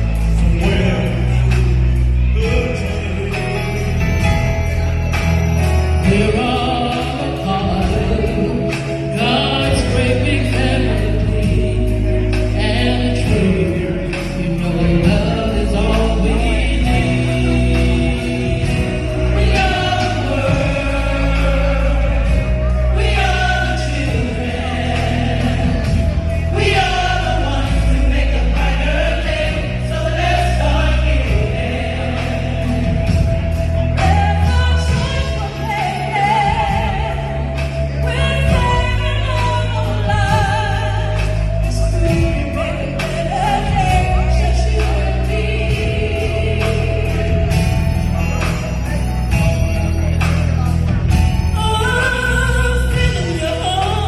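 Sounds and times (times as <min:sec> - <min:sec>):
gospel choir singing: 0:00.0 - 0:50.2
low bass line: 0:00.0 - 0:54.0.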